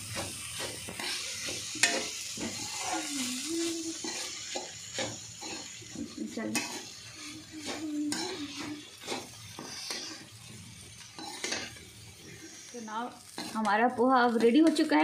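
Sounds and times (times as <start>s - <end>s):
metal spoon scraping pan: 0.0s - 13.7s
light sizzle: 0.0s - 15.0s.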